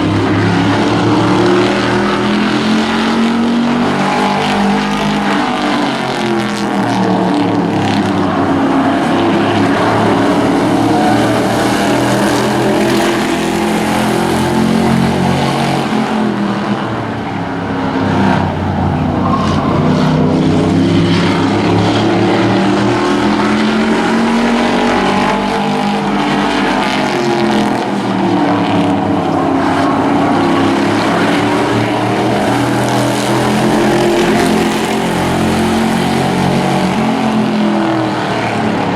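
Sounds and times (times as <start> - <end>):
race truck engines revving: 0.0 - 38.9.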